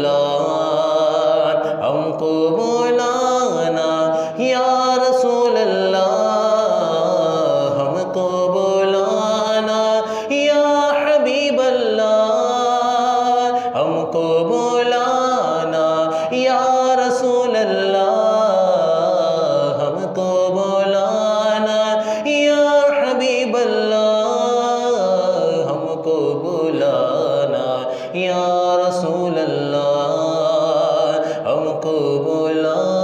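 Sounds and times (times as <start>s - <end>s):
man singing melismatic notes: 0.0s - 33.0s.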